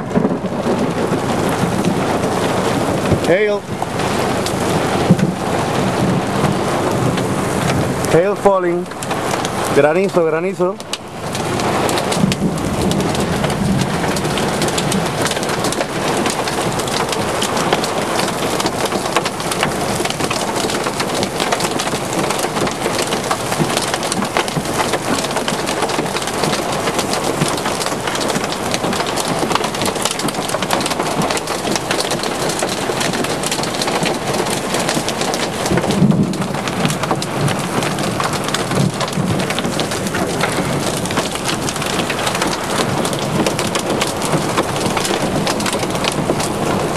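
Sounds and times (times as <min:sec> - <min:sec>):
hailstones ticking: 0:00.0 - 0:46.9
heavy rain on pavement: 0:00.0 - 0:46.9.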